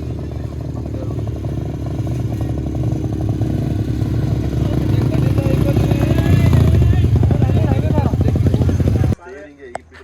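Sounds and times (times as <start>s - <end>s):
small engine running: 0.0s - 9.2s.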